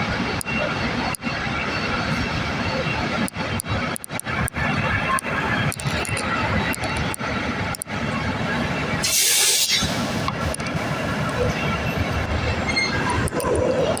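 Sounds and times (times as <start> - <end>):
fire truck engines running: 0.0 - 14.0.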